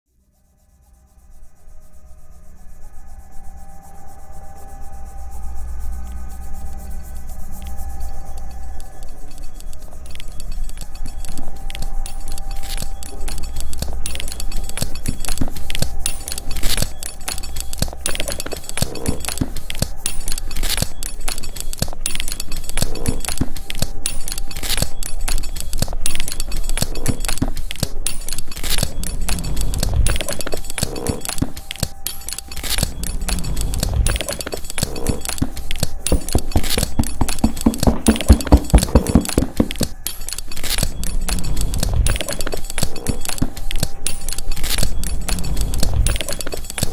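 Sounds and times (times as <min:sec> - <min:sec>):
tapping and clicking: 0:07.6 - 0:46.9
metal hardware clinking: 0:08.8 - 0:46.9.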